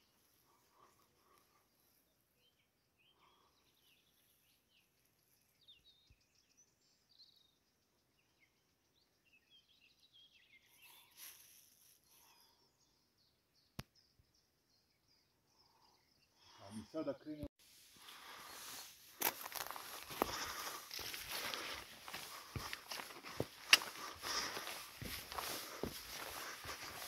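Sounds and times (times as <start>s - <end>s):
small birds chirping and trilling: 0.0s - 27.0s.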